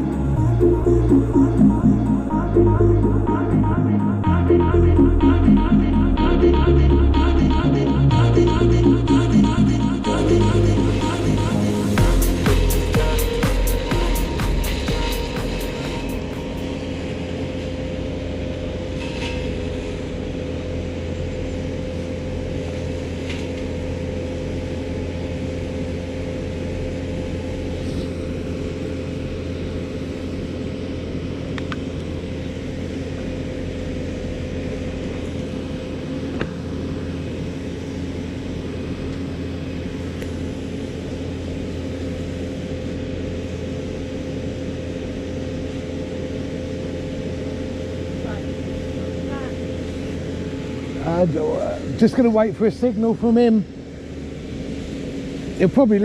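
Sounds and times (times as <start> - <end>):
vehicle motor running with whine: 0.0 - 56.0.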